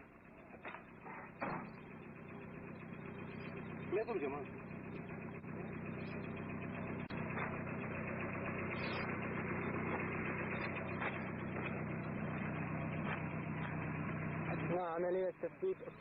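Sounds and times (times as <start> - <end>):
engine idling hum: 0.0 - 16.0.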